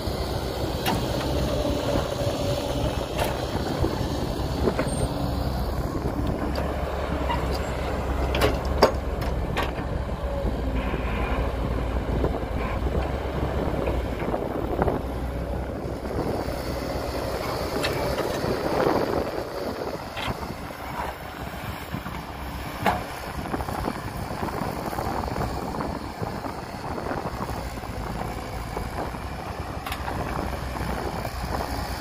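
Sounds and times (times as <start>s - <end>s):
heavy diesel machinery running: 0.0s - 32.0s.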